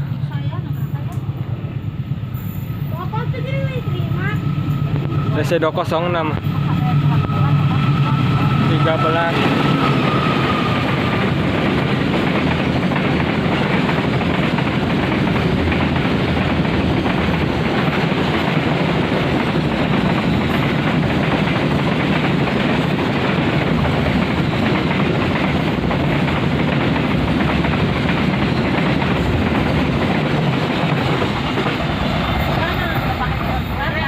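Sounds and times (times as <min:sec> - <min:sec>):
freight train rumbling on rails: 0:00.0 - 0:34.0.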